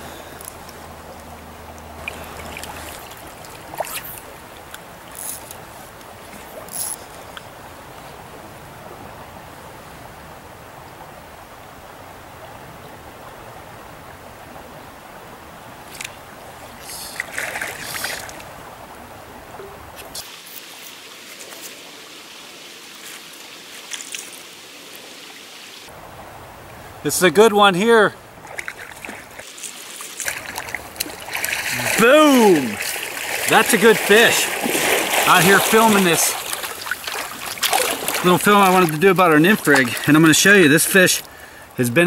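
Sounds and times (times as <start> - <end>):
stream water rushing: 0.0 - 42.0.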